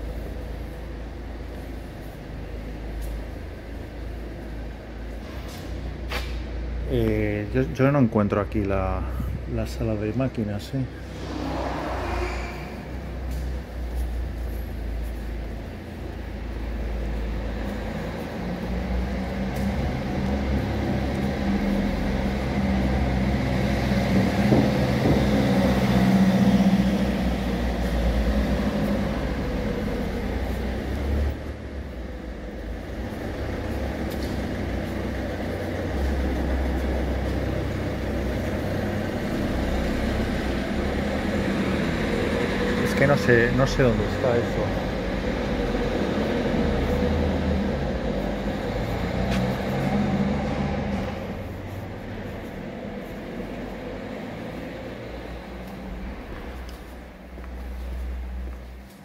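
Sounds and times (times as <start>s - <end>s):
car engines and tyres rumbling: 0.0s - 59.0s.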